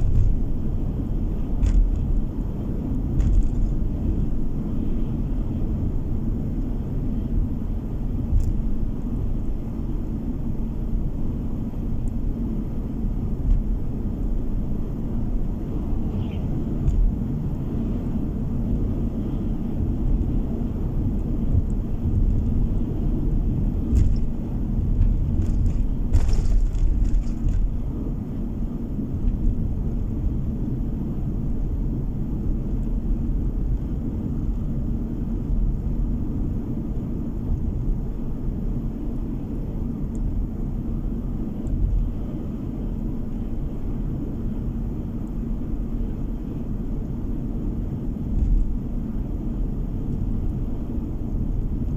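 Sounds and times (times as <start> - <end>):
car interior road noise: 0.0 - 51.9.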